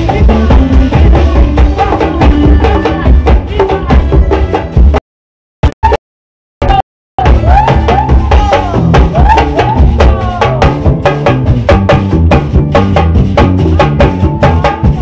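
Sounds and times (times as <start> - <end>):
fast percussion: 0.0 - 5.0, 6.6 - 15.0
heavy bass line: 0.0 - 5.0, 6.6 - 15.0.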